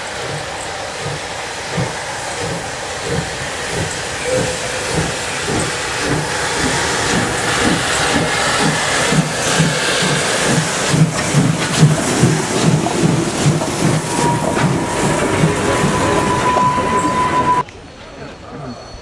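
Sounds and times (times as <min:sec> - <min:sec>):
steam hissing: 0:00.0 - 0:17.6
steam locomotive exhaust chuffing: 0:00.0 - 0:17.6.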